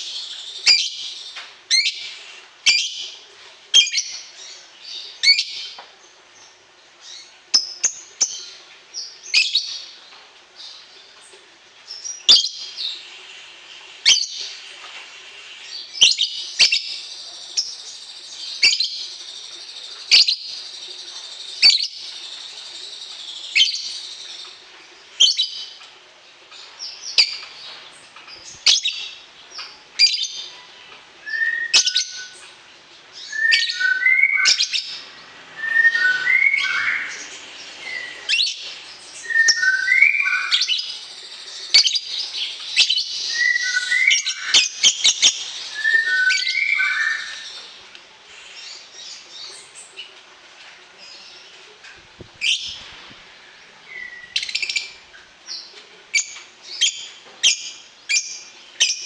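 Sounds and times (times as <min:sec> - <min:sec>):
songbird chirping: 0:00.0 - 0:25.9, 0:26.5 - 0:59.0.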